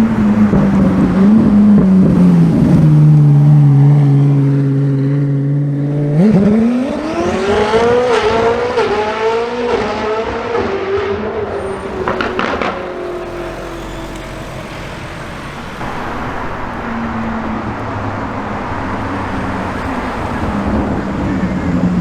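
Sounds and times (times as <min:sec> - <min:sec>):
car engine accelerating hard: 0:00.0 - 0:22.0.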